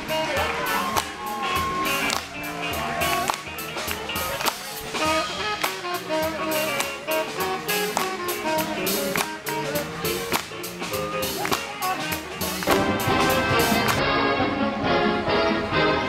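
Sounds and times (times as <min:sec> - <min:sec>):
drums keeping a steady beat: 0:00.0 - 0:14.0
live band playing: 0:00.0 - 0:16.0.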